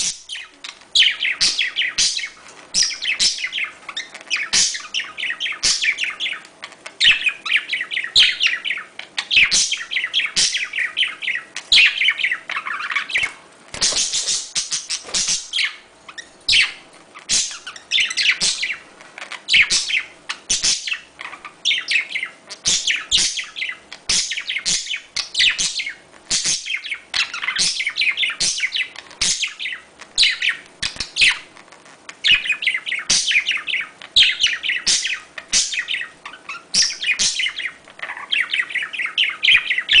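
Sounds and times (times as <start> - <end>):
budgerigars chattering and warbling: 0.0 - 31.5, 32.2 - 40.0.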